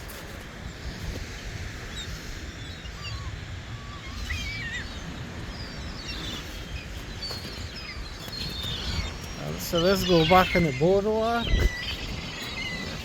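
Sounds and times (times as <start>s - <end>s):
small birds chirping: 1.8s - 13.0s.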